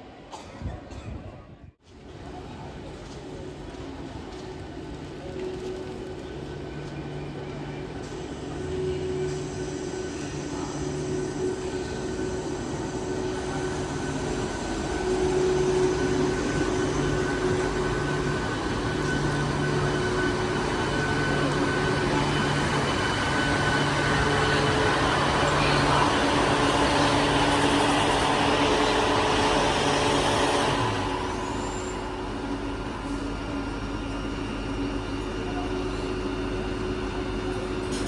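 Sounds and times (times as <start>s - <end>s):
train rumbling past: 1.8s - 38.0s.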